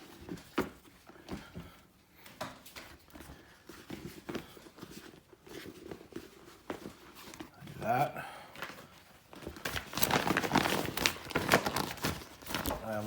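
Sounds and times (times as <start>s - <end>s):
soft rustling and handling: 0.0s - 13.0s.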